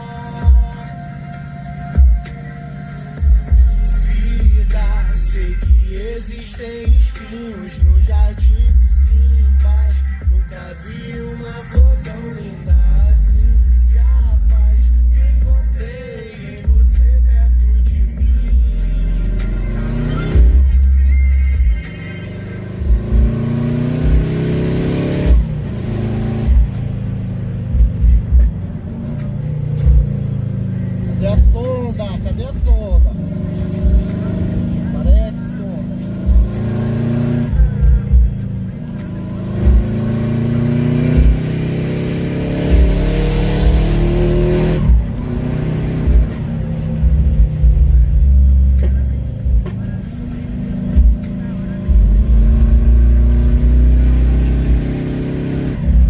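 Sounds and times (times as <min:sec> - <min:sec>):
car engine accelerating: 0:07.8 - 0:56.0.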